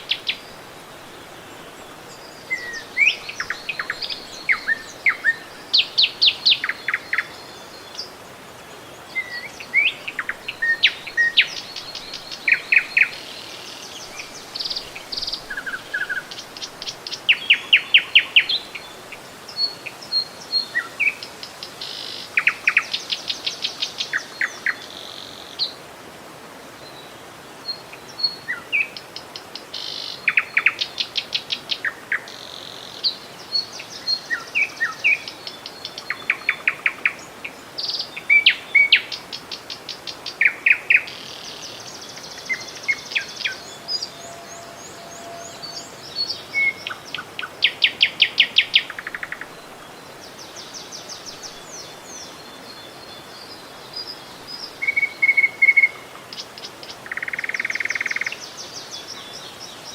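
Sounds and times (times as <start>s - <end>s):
songbirds singing: 0.0s - 25.9s, 26.6s - 59.9s
flowing river water: 0.0s - 59.9s.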